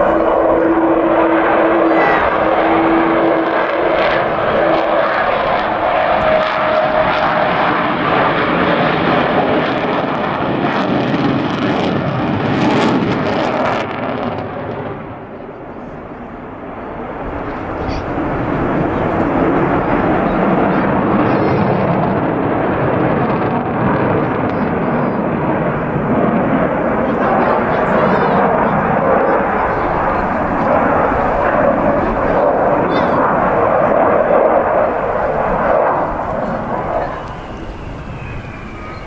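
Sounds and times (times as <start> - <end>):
jet bomber roaring past: 0.0 - 39.0.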